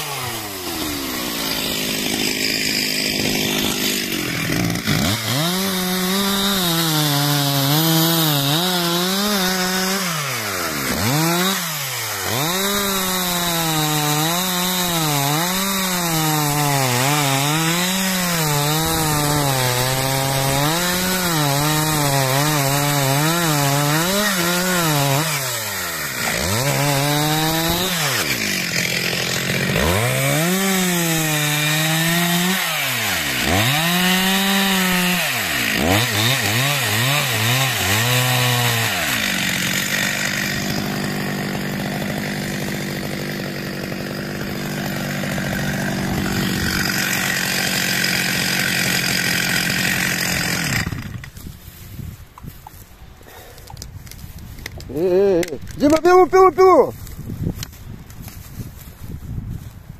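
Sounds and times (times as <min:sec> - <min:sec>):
chainsaw cutting wood: 0:00.0 - 0:59.8.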